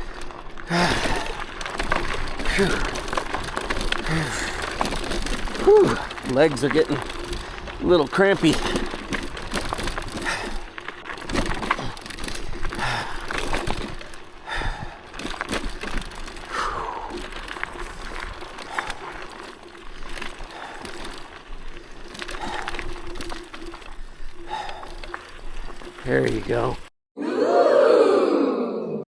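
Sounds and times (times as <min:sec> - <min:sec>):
tyres crunching over rock: 0:00.0 - 0:26.9.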